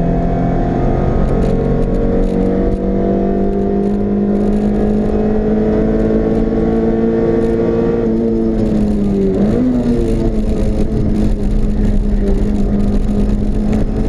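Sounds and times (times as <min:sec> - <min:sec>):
car engine accelerating: 0:00.0 - 0:14.0
wind noise: 0:00.0 - 0:14.0.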